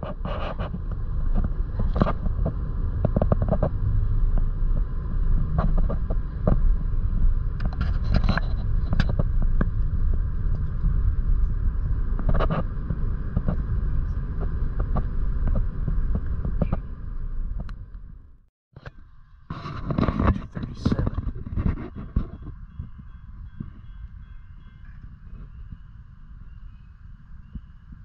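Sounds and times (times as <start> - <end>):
tyres and engine rumbling: 0.0 - 28.0.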